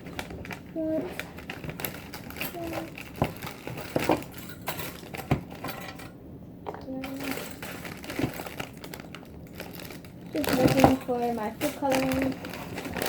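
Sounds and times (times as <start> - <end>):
small objects clicking and rattling: 0.0 - 6.0, 6.7 - 13.0.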